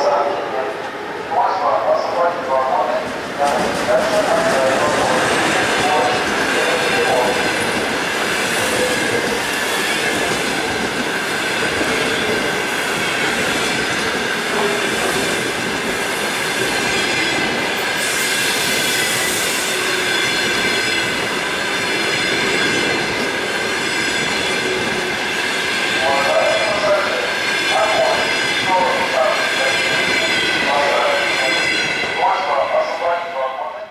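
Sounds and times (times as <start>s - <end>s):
train wheels rushing on rails: 0.1s - 33.9s.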